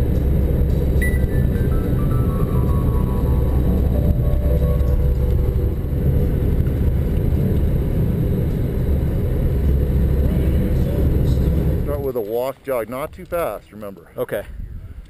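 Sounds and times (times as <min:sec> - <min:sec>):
car engine and tyre noise: 0:00.0 - 0:12.4.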